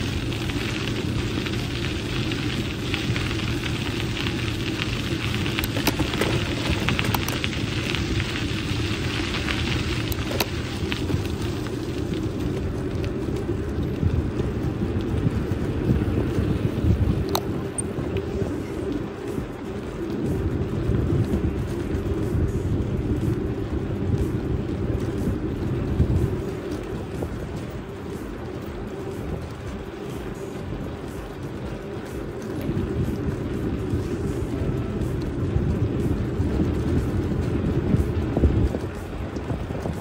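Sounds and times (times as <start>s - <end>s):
bicycle tyres hissing on pavement: 0.0s - 40.0s
wind buffeting microphone: 0.0s - 40.0s.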